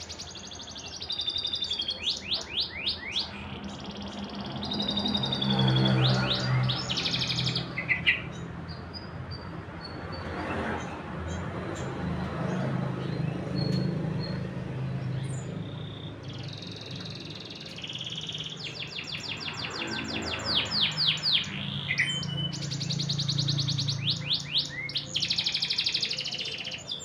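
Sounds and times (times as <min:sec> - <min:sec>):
canary singing trills: 0:00.0 - 0:10.3, 0:12.6 - 0:27.0.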